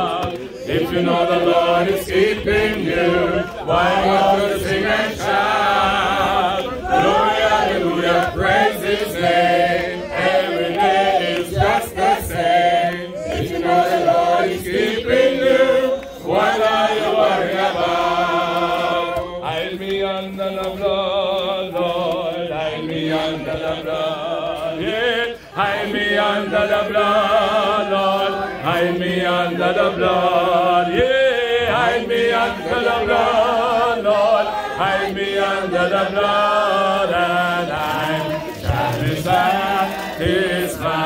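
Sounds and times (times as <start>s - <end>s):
crowd singing gospel chorus: 0.0s - 41.0s.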